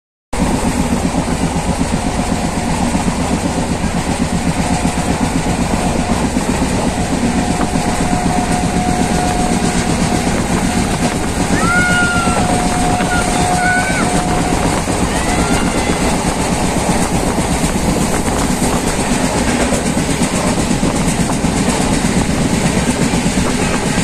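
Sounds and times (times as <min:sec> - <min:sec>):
train wheels rumbling on rails: 0:00.4 - 0:24.0.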